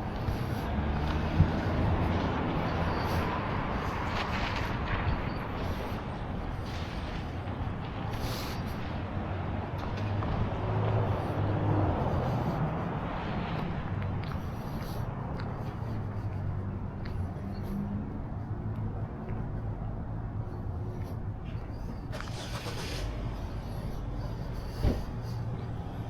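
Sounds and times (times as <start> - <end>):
vehicle engines humming: 0.0 - 26.0.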